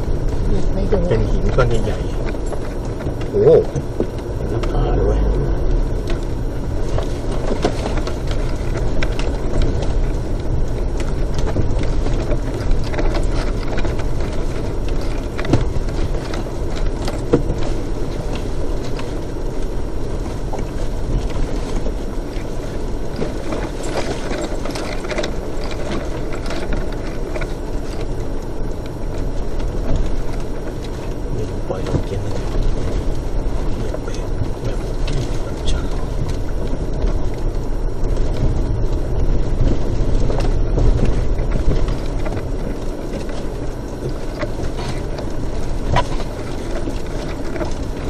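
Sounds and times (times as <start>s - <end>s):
vehicle body rattling: 0.0s - 48.0s
vehicle engine and tyres rumbling: 0.0s - 48.0s.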